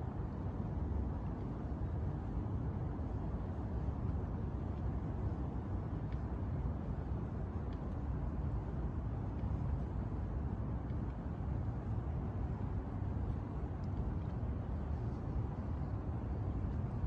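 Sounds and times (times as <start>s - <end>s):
city ambience rumble: 0.0s - 17.0s.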